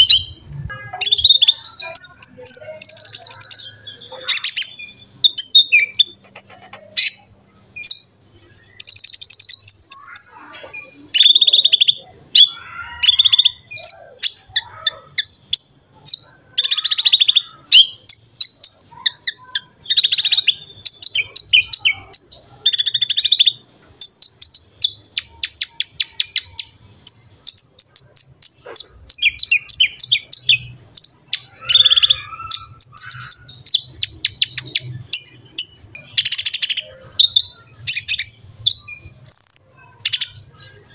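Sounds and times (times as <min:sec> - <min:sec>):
sunbird chirping and trilling: 0:00.0 - 0:40.9.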